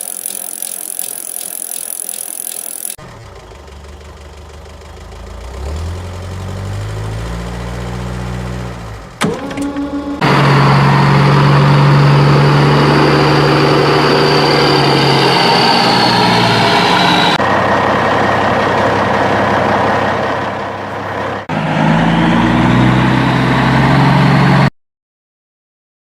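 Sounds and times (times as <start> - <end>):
vehicle engine humming: 0.0 - 24.7.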